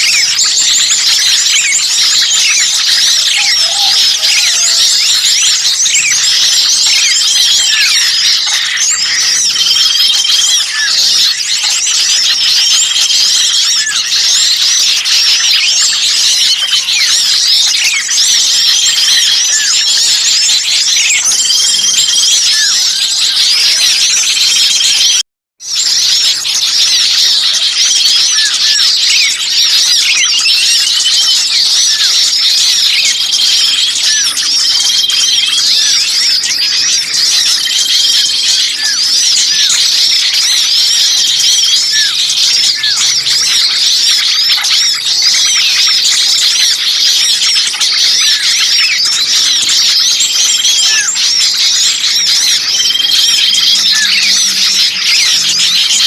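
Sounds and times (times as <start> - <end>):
songbirds chorus chipping: 0.0 - 56.0.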